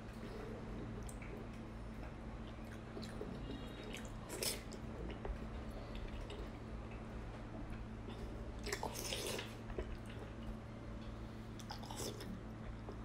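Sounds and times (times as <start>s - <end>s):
person chewing food: 0.1s - 7.0s, 8.1s - 10.5s, 11.6s - 13.0s.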